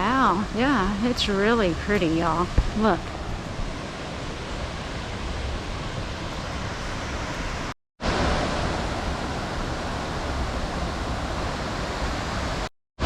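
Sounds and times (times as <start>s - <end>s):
waterfall rushing: 2.1s - 12.7s.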